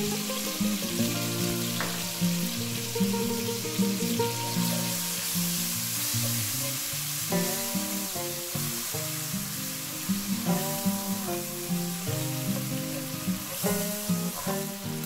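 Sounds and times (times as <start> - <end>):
background music: 0.0 - 15.0
vegetables sizzling in oil: 0.0 - 15.0.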